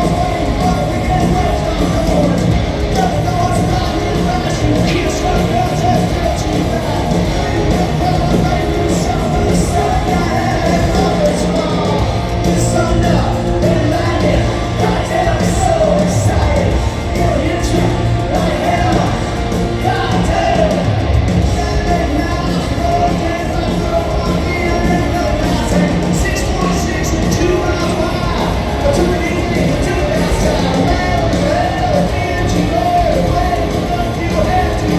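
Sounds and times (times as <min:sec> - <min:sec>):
hard rock band playing live: 0:00.0 - 0:34.9
person singing: 0:00.0 - 0:34.9.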